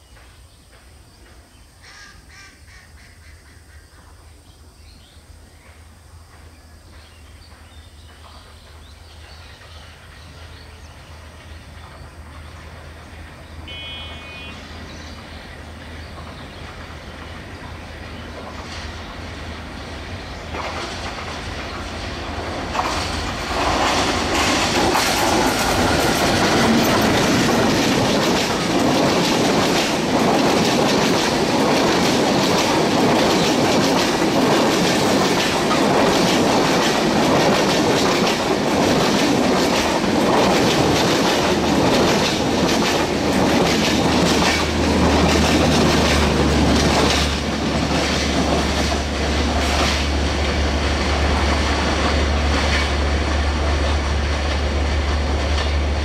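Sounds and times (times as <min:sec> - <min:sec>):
diesel locomotive: 0:05.2 - 0:56.0
wheels clacking over rail joints: 0:06.3 - 0:56.0.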